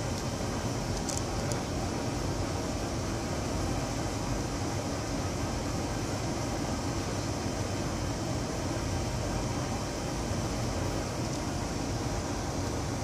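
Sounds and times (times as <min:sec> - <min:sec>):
fan rushing air: 0:00.0 - 0:13.0.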